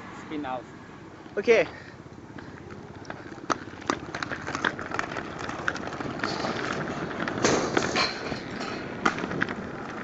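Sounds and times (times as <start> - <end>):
inline skates rolling on pavement: 1.0 - 10.0.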